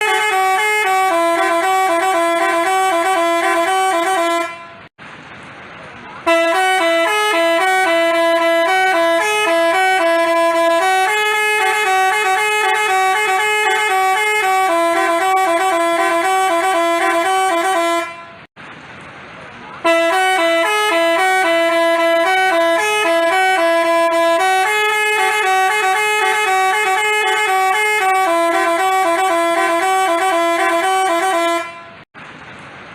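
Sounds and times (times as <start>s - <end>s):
multi-tone bus horn tune: 0.0s - 4.9s, 6.2s - 18.5s, 19.8s - 32.1s
street noise: 0.0s - 32.9s.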